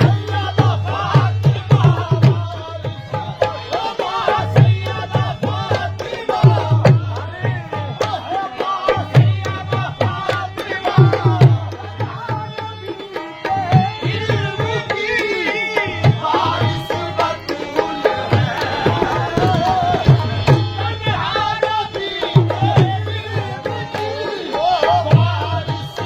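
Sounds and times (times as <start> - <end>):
qawwali music: 0.0 - 26.0.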